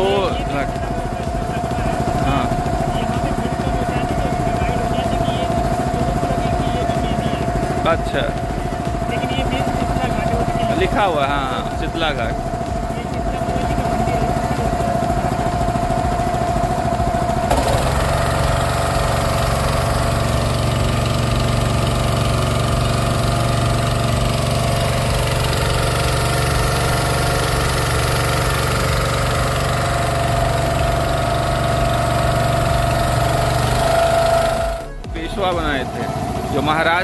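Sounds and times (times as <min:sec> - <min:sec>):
motorboat engine rumbling: 0:00.0 - 0:37.0.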